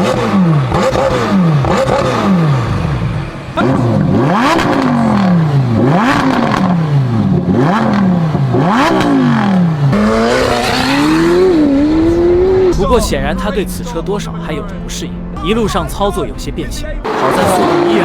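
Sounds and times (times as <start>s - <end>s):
sports car engine revving: 0.0s - 15.4s, 16.0s - 18.0s.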